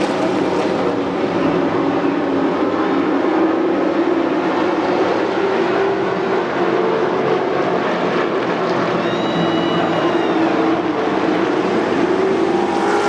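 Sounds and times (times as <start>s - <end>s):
race truck engines droning: 0.0s - 13.0s.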